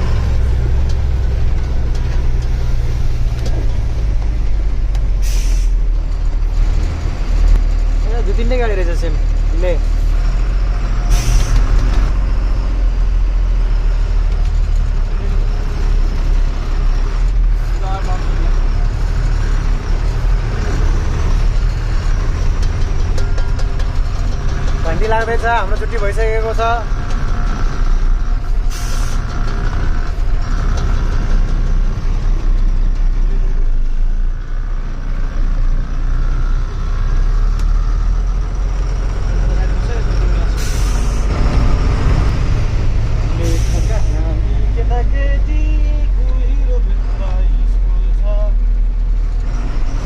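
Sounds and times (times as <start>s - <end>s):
road noise: 0.0s - 50.0s
truck engine rumbling: 0.0s - 50.0s.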